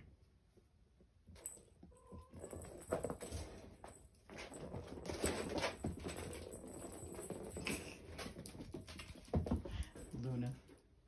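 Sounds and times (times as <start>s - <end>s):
kittens pattering and scuffling: 0.2s - 11.0s.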